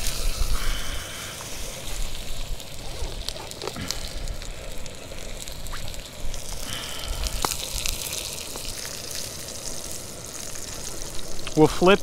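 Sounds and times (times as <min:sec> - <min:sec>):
steak sizzling in a skillet: 0:00.0 - 0:12.0.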